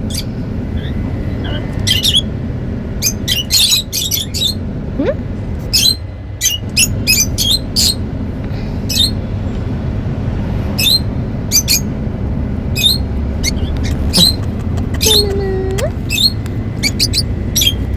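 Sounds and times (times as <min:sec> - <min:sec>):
birds chirping: 0:00.0 - 0:17.9
steady low hum: 0:00.0 - 0:17.9.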